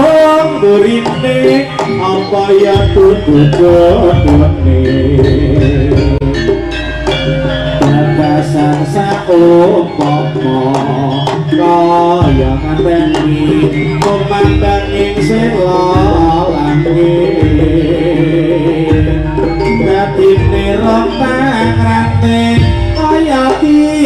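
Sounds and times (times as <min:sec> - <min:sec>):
gamelan music: 0:00.0 - 0:24.0
hand drum patterns: 0:00.0 - 0:24.0.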